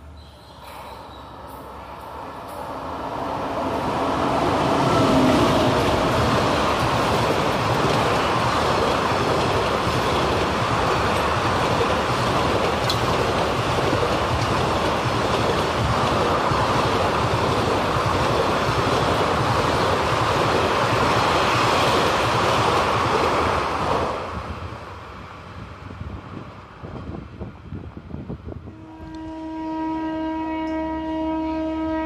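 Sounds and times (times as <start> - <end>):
train wheels rumbling on rails: 0.0 - 31.3.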